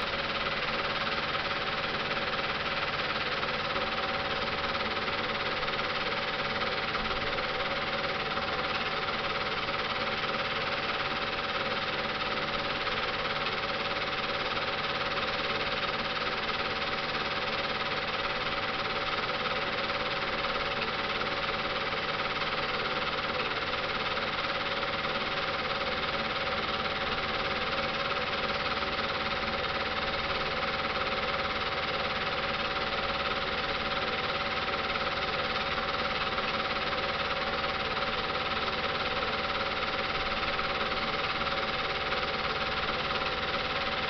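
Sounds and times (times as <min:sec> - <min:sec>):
film projector whirring: 0:00.0 - 0:44.0.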